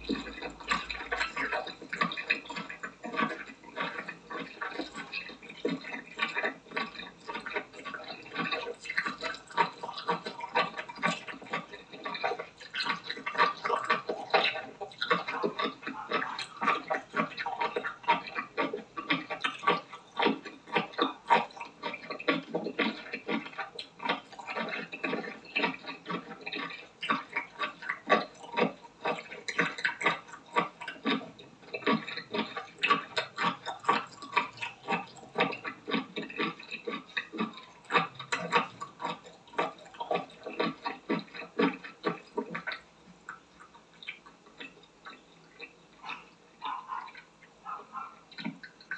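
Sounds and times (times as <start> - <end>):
wet chewing and slurping: 0.0 - 48.9.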